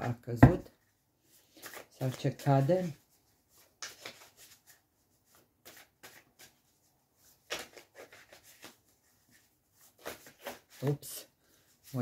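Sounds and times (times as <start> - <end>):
cards being shuffled: 1.4 - 11.1.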